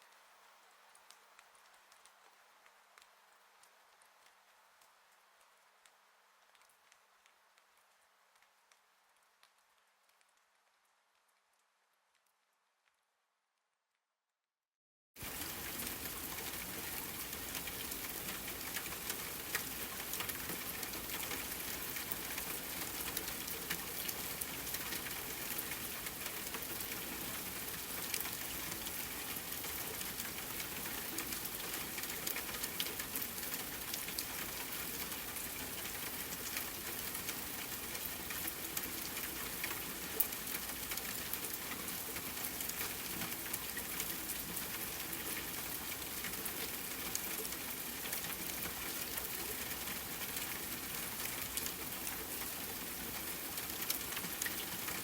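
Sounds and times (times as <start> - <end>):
steady rain patter: 0.0 - 12.4, 15.2 - 55.0.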